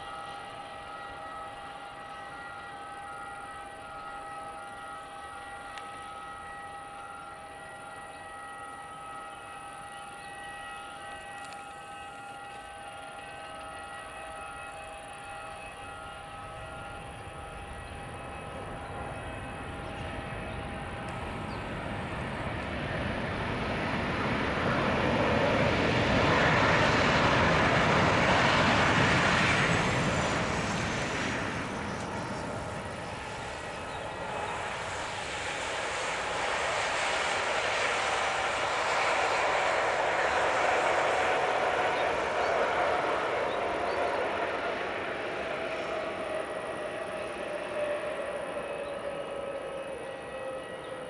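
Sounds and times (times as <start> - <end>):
jet airliner engines rolling: 0.0 - 51.0.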